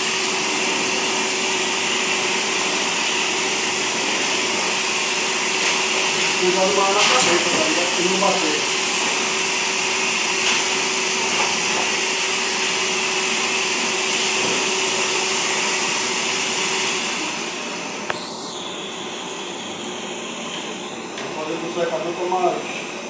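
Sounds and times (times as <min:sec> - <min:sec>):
blower dryer rushing air: 0:00.0 - 0:23.0.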